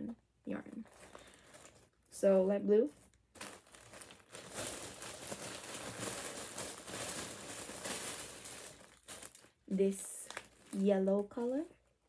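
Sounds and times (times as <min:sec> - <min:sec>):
plastic bag crinkling: 0:00.6 - 0:02.1, 0:02.8 - 0:11.9.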